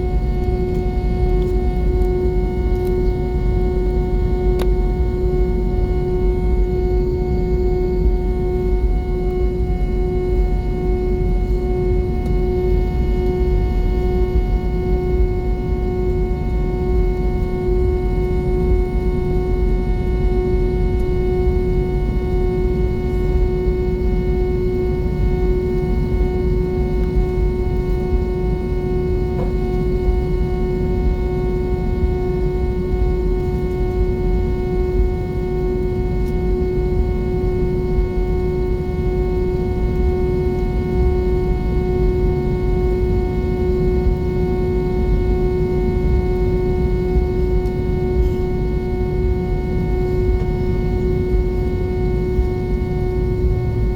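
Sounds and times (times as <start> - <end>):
constant droning hum tone: 0.0 - 53.9
jet engine cabin rumble: 0.0 - 53.9.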